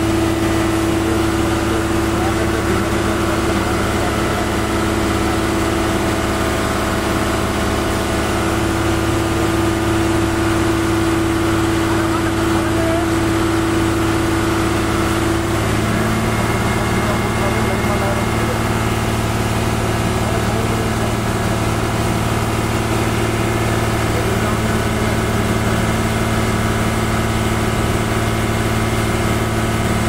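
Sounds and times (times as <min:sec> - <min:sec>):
crane engine running: 0:00.0 - 0:30.0.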